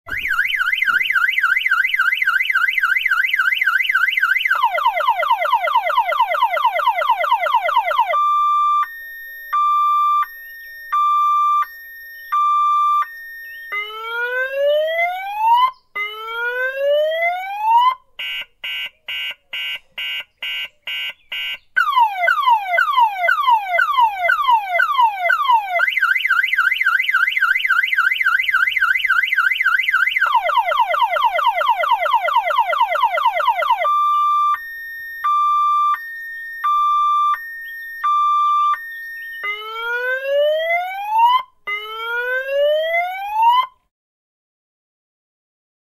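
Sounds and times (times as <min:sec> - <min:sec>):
car alarm siren: 0:00.1 - 0:43.9.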